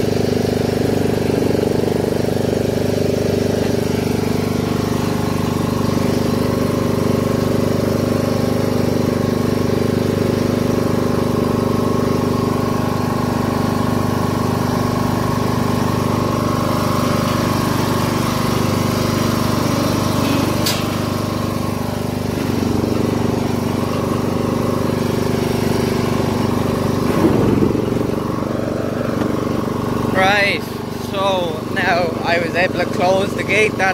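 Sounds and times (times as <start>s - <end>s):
lawn mower engine running: 0.0s - 33.9s.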